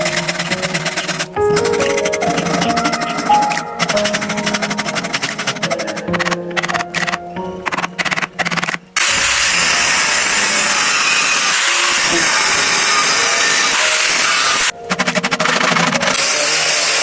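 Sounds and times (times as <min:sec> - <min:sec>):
power tool whirring: 0:00.0 - 0:17.0.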